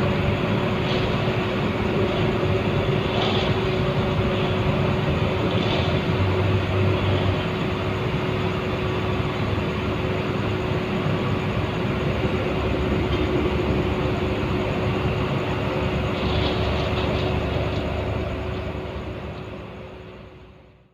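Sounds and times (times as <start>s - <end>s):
faint constant hum: 0.0s - 20.9s.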